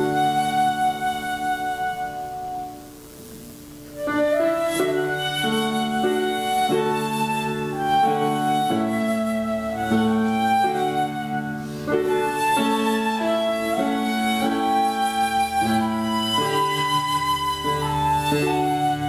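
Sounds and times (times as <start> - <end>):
slow instrumental melody: 0.0 - 19.0.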